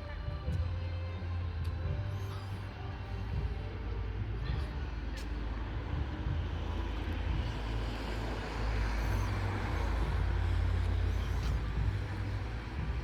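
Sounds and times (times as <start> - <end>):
diesel train running by: 0.0 - 13.0.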